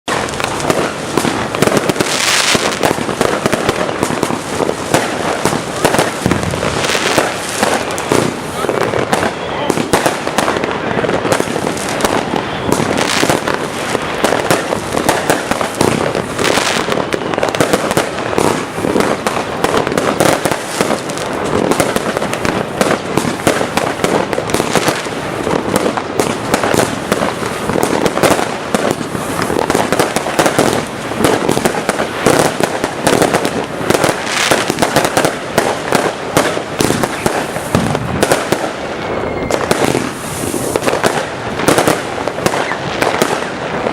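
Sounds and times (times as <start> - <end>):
firework barrage with crackling: 0.0 - 43.9.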